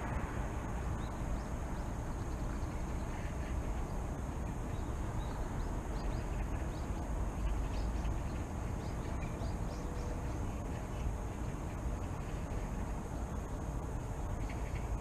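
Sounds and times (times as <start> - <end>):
distant city traffic rumble: 0.0 - 15.0
small birds chirping: 1.0 - 13.6.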